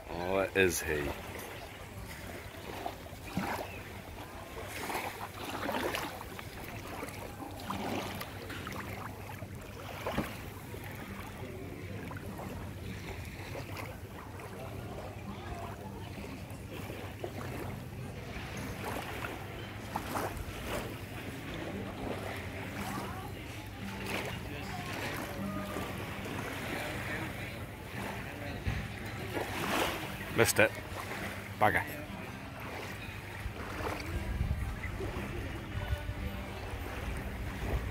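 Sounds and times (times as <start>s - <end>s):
small waves lapping on shore: 0.0s - 37.9s.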